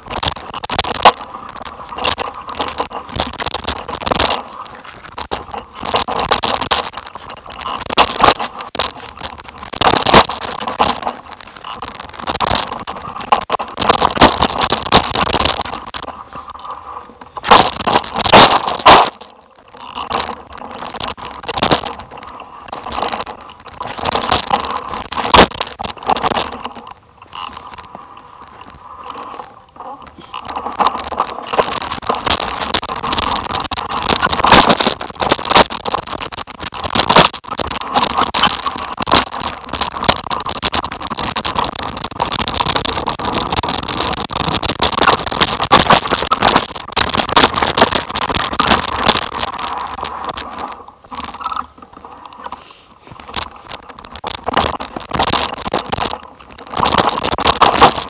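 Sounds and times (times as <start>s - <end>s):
scraping and crackling on dirt trail: 0.0s - 58.0s.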